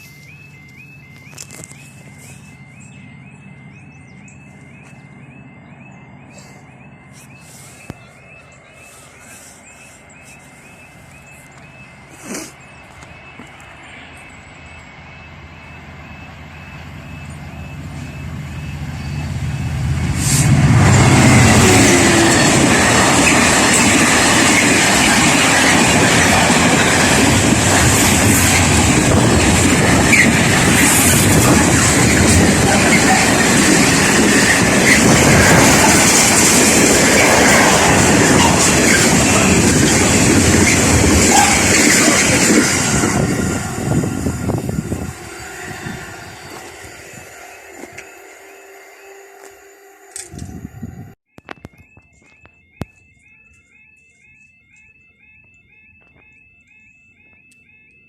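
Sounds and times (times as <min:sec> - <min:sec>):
wheels rattling on rails: 0:00.0 - 0:51.1
train passing: 0:00.0 - 0:51.2.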